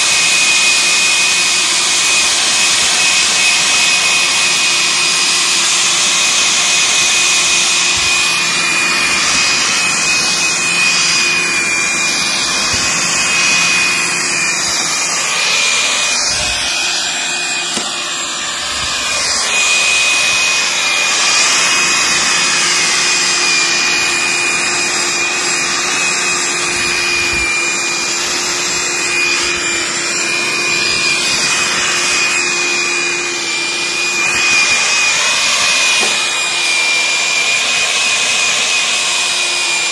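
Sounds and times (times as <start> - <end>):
electric tiller whining: 0.0 - 39.9.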